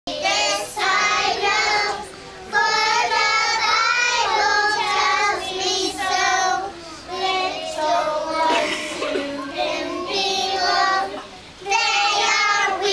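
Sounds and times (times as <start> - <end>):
young children singing: 0.1 - 12.9.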